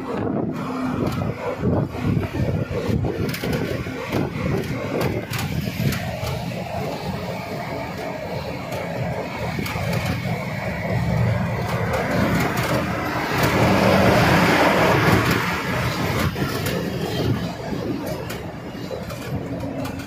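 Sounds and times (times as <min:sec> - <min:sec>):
truck engine and road rumble: 0:00.0 - 0:20.0
truck passing: 0:00.0 - 0:20.0.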